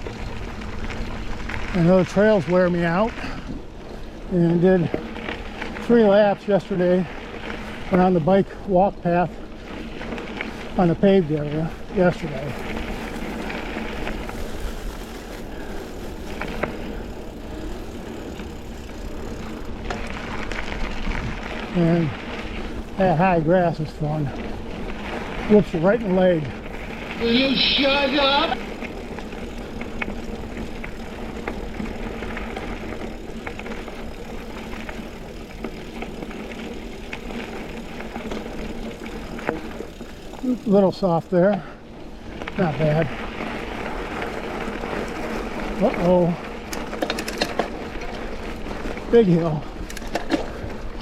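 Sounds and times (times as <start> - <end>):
bike tyres rolling on dirt: 0.0 - 51.0.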